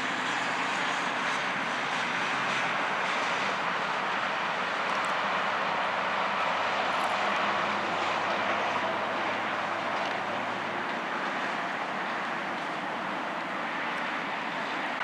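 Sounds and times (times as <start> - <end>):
low engine hum: 0.0 - 15.0
passing road traffic: 0.0 - 15.0.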